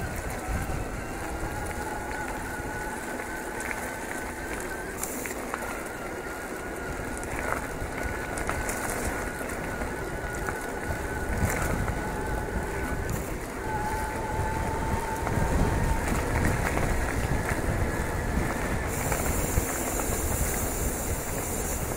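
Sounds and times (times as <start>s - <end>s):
wind on microphone: 0.0s - 5.0s, 5.6s - 21.9s
bike tyres crunching on gravel: 0.0s - 21.9s
high motor whine: 0.0s - 21.9s.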